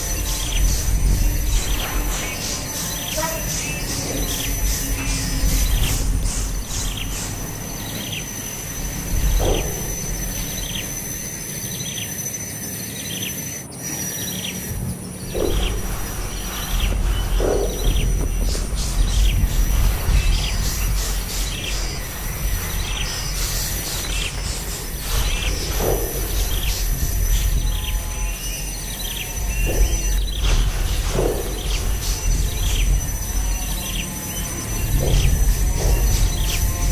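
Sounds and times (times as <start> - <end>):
high-pitched insect drone: 0.0 - 36.9
small birds chirping: 0.0 - 36.9.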